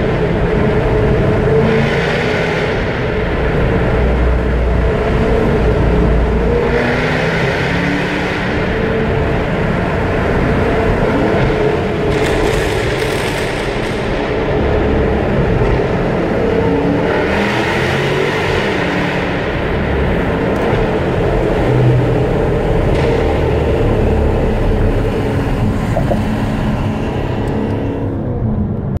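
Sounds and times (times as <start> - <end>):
car engine and exhaust: 0.0 - 29.0
tyre and road noise: 0.0 - 29.0.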